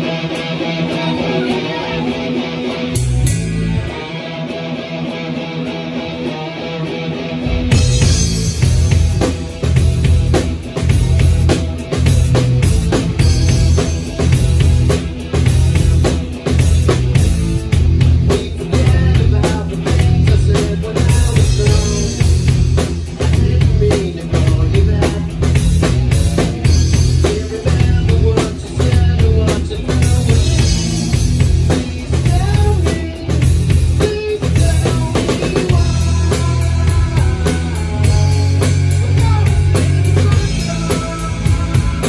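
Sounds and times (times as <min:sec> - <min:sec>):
bass guitar: 0:00.0 - 0:42.0
drum kit played hard: 0:00.0 - 0:42.0
electric guitar: 0:00.0 - 0:42.0.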